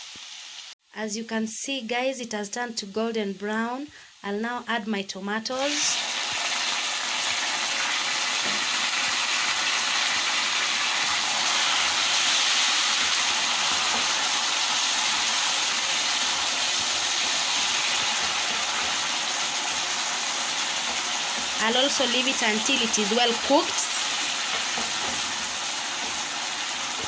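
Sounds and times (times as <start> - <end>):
tomatoes sizzling in oil: 0.0 - 0.8, 2.8 - 27.0.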